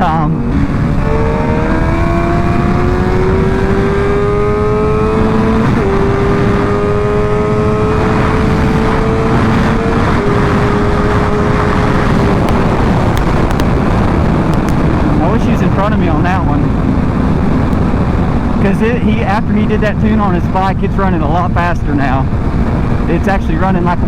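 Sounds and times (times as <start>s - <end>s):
motorcycle engine accelerating: 0.0s - 24.0s
wind rushing over microphone: 0.0s - 24.0s.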